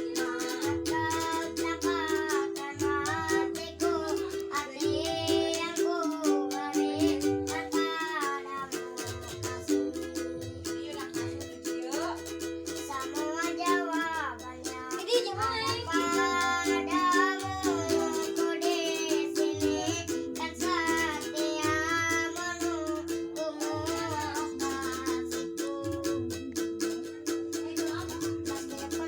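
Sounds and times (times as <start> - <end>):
child singing: 0.0 - 29.0
ukulele playing chords: 0.0 - 29.0.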